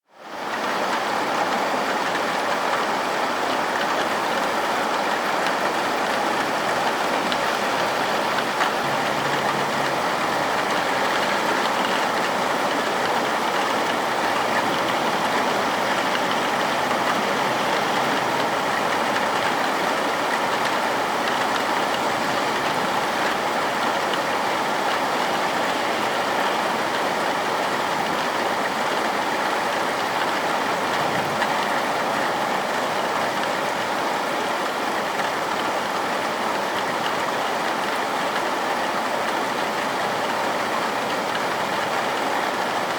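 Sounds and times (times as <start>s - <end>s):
heavy rain falling: 0.1s - 42.9s.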